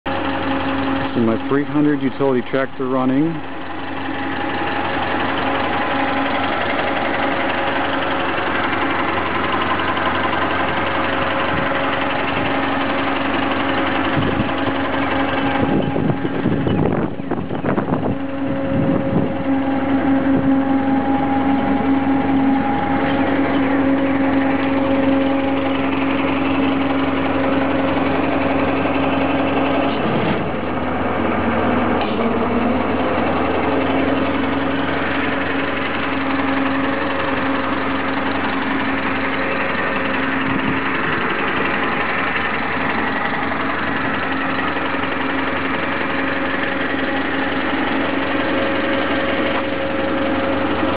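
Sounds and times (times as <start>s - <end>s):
tractor engine idling: 0.0s - 50.9s
steady mechanical whine: 0.1s - 50.9s.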